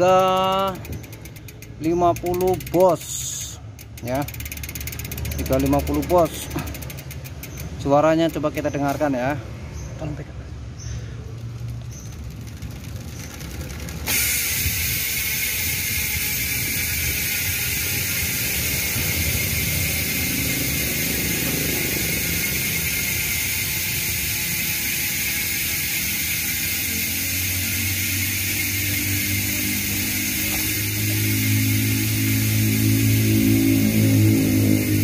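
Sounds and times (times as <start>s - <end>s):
bicycle freehub ratcheting buzz: 0.0s - 10.0s, 10.6s - 35.0s.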